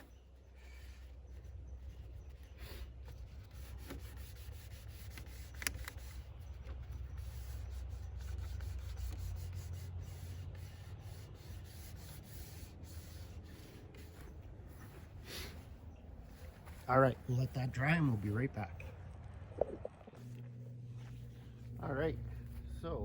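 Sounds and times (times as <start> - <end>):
cloth wiping plastic lens: 0.0 - 18.3, 20.2 - 23.0.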